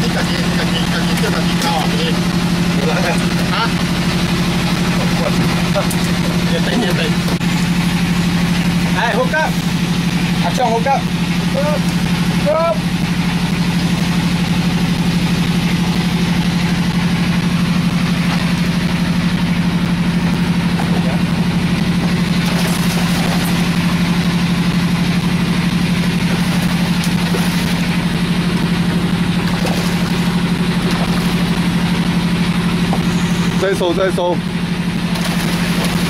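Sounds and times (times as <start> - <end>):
boat engine idling: 0.0 - 36.0.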